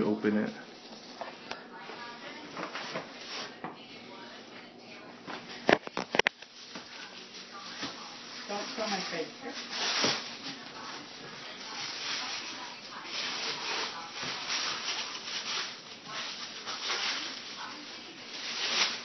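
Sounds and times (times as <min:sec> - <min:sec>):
wrapping paper rustling and crinkling: 0:00.1 - 0:04.4, 0:05.4 - 0:19.0.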